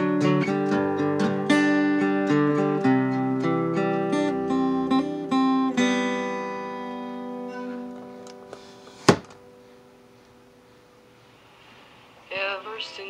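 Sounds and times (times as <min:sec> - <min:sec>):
acoustic guitar plucked notes: 0:00.0 - 0:10.6.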